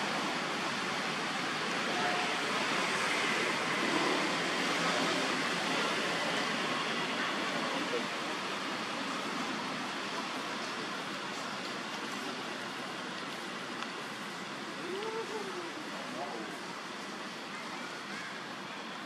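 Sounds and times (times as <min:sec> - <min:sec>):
rushing stream: 0:00.0 - 0:19.0.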